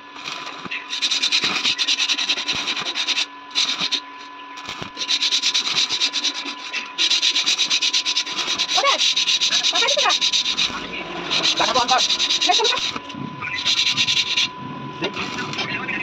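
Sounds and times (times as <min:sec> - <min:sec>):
welding arc crackling and sizzling: 0:00.0 - 0:04.0, 0:04.6 - 0:16.0.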